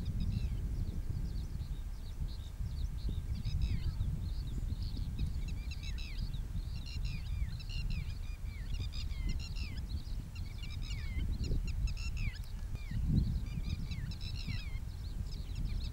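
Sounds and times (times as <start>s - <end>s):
birds chirping and chattering: 0.0s - 15.9s.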